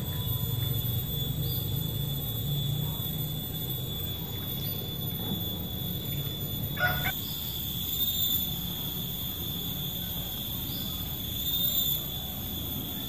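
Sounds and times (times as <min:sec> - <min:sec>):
insects chirring: 0:00.0 - 0:13.0
outdoor background noise: 0:00.0 - 0:13.0.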